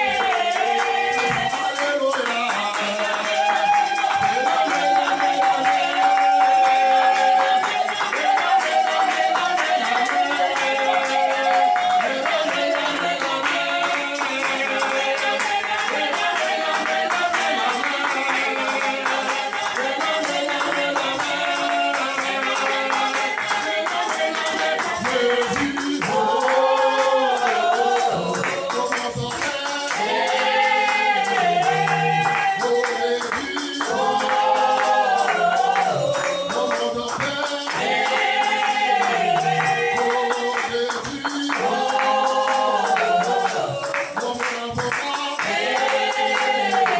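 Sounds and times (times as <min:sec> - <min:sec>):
music with percussion beat: 0:00.0 - 0:46.9
person singing: 0:00.0 - 0:46.9.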